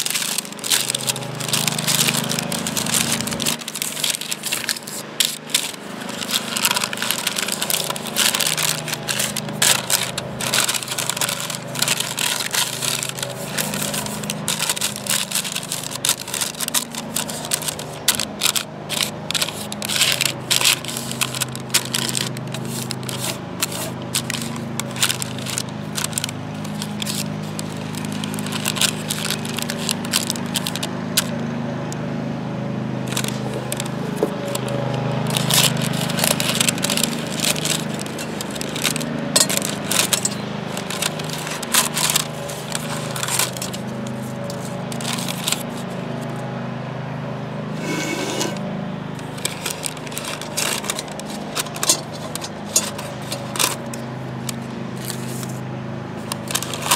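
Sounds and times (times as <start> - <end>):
parchment paper crinkling: 0.0 - 31.4, 33.0 - 46.4, 47.8 - 56.9
scissors snipping paper: 0.0 - 31.4, 33.1 - 46.3, 49.2 - 55.6, 56.2 - 56.9.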